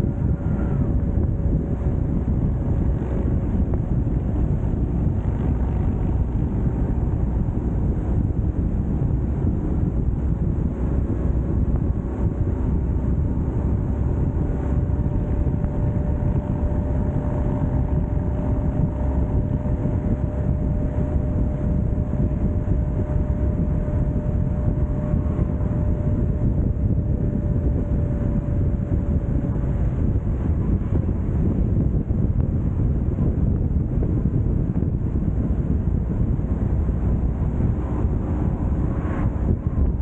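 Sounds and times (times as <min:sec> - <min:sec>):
faint steady whine: 0:00.0 - 0:40.0
road noise: 0:00.0 - 0:40.0
wind rumble on microphone: 0:00.0 - 0:40.0.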